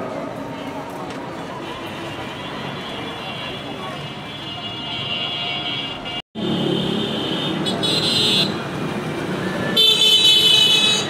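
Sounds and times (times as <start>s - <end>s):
motorbikes on road: 0.0s - 11.0s.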